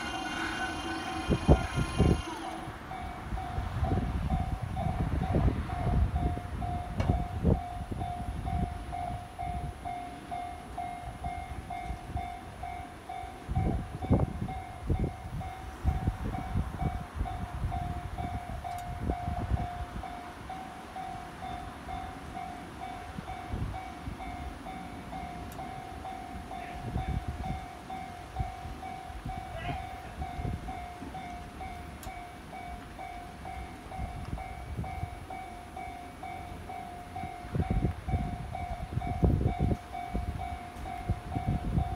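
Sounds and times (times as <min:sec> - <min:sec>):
level-crossing warning bell: 0:00.0 - 0:41.9.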